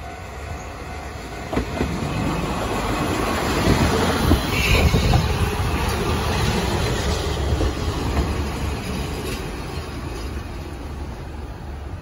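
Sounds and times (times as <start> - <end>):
diesel railcar wheels rumbling: 0.0 - 12.0.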